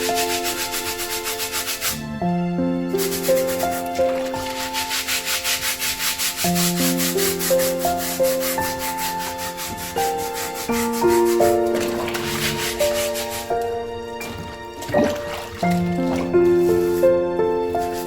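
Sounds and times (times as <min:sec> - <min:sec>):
scrubbing brush strokes: 0:00.0 - 0:02.0, 0:02.9 - 0:18.0
calm instrumental music: 0:00.0 - 0:18.0.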